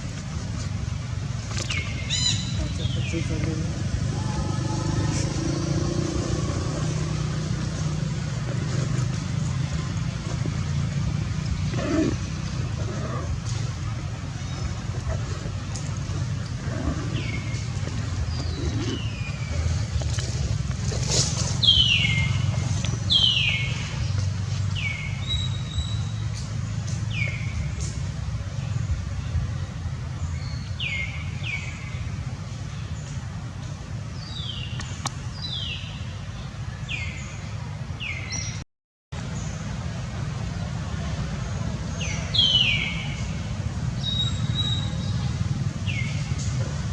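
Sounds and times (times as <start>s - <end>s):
vehicle engine rumble: 0.0s - 46.9s.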